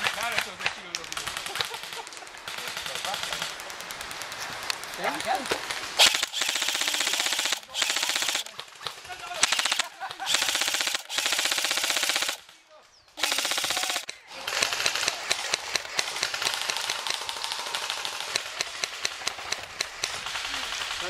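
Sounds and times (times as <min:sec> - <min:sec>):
airsoft guns firing: 0:00.0 - 0:12.6, 0:13.2 - 0:21.0.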